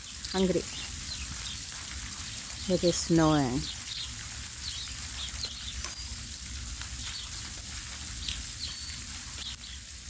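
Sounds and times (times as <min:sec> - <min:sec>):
sparrows chirping: 0:00.0 - 0:10.0
steady hiss: 0:00.0 - 0:10.0.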